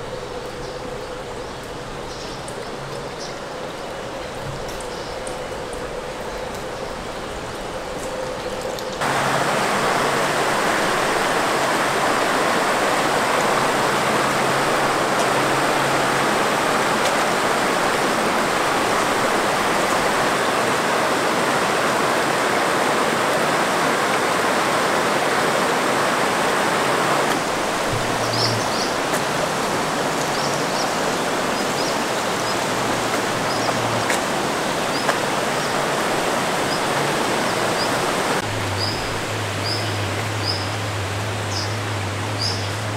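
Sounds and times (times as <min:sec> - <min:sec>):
stream water flowing: 0:00.0 - 0:42.9.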